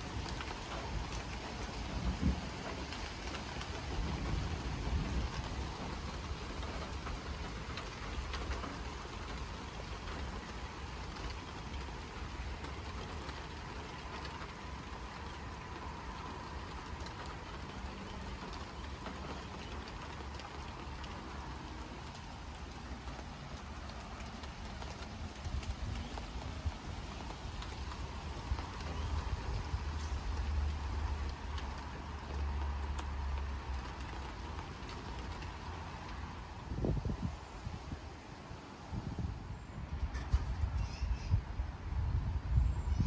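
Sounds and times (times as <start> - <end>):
rain falling: 0.0 - 43.0
strong wind rumble: 0.0 - 43.0.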